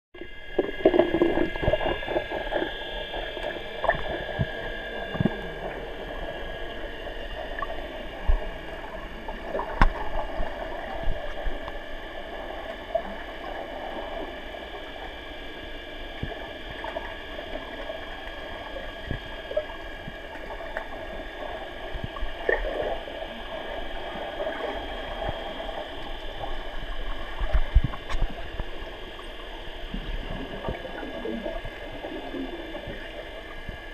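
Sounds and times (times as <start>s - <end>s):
steady high-toned hum: 0.2s - 33.9s
underwater water noise: 0.2s - 33.9s.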